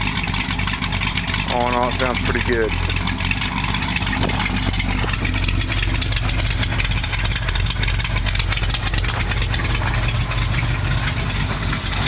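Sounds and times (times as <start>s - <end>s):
vehicle engine idling lopey: 0.0s - 12.0s.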